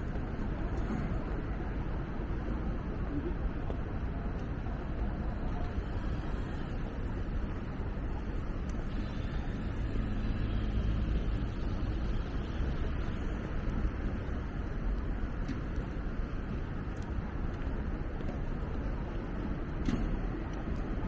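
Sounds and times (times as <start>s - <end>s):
low traffic rumble: 0.0s - 21.0s
vehicle engine hum: 0.0s - 21.0s.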